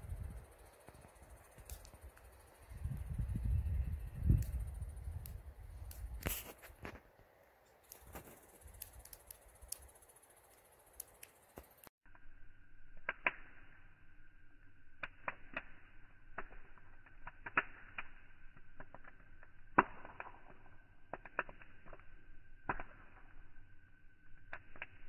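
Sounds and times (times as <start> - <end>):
campfire crackling and popping: 0.0 - 12.2, 12.8 - 13.9, 14.6 - 25.0.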